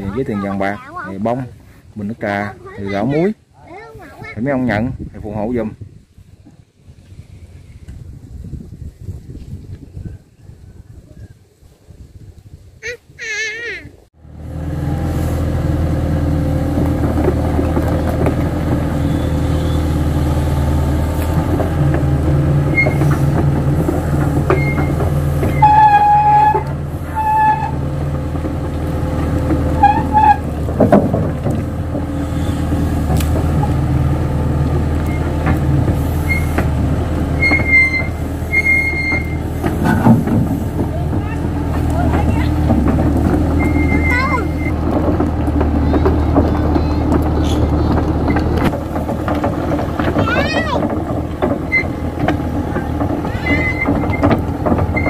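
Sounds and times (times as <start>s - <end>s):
excavator diesel engine: 0.0s - 4.3s, 14.2s - 55.0s.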